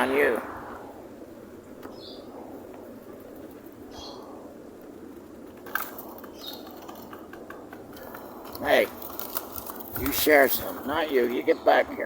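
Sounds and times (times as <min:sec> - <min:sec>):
pigeons feeding: 0:00.0 - 0:12.0.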